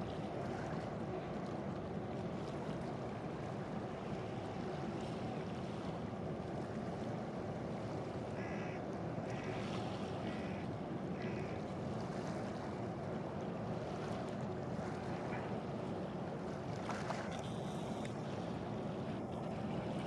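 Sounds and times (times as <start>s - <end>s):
water: 0.0s - 20.0s.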